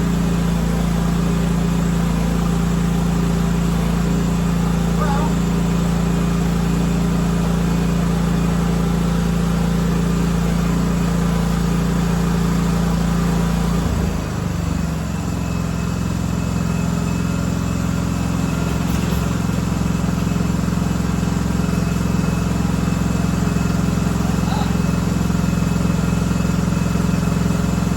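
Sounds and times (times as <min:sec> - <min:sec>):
lawn tractor engine running: 0:00.0 - 0:27.9.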